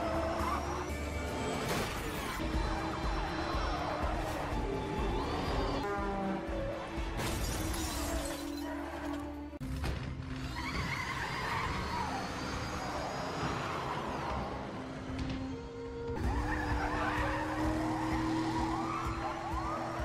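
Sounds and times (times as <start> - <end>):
film soundtrack music: 0.0 - 11.0, 14.2 - 20.0
car sound effects: 0.0 - 20.0.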